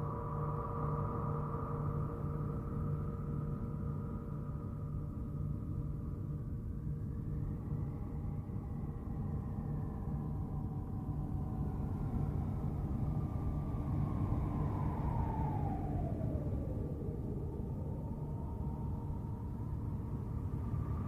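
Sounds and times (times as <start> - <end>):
low rumble drone: 0.0 - 21.0.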